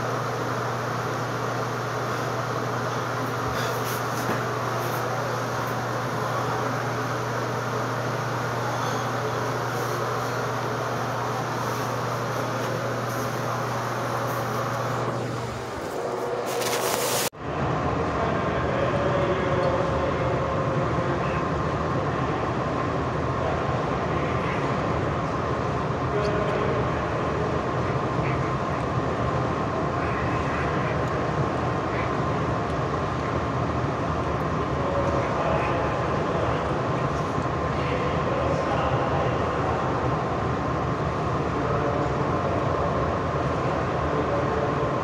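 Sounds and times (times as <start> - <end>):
distant voices: 0.0 - 45.0
indoor pool rushing ambience: 0.0 - 45.0.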